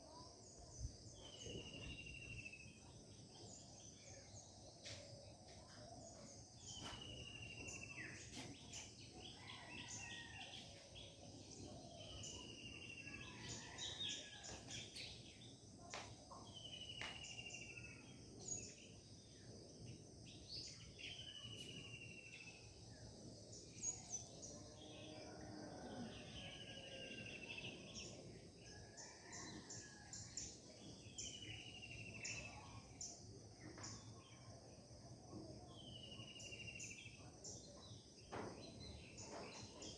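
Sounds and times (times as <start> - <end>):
high hum of insects: 0.0 - 39.9.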